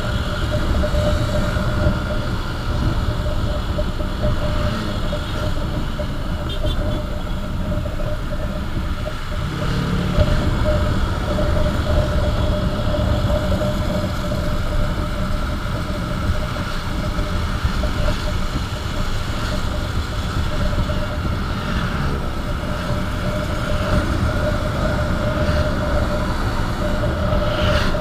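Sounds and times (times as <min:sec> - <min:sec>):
motorcycle engine hum: 0:00.0 - 0:28.0
wind rumble on microphone: 0:00.0 - 0:28.0.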